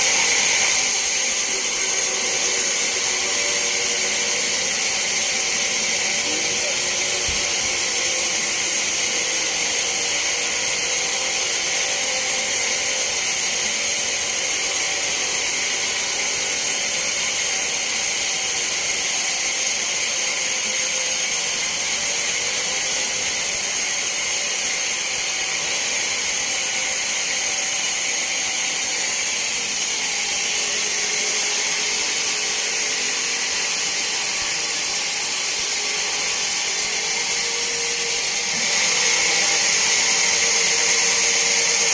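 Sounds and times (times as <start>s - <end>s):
band saw cutting log hiss: 0.0s - 41.9s.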